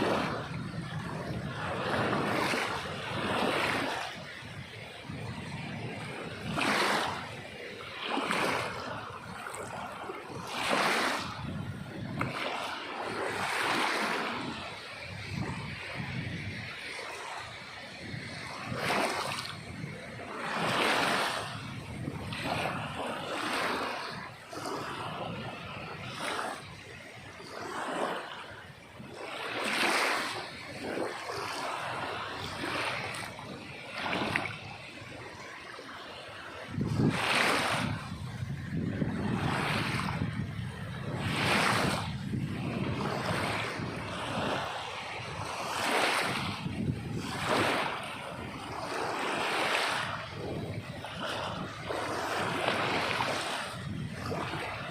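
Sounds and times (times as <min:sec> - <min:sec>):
sea waves breaking: 0:00.0 - 0:54.9.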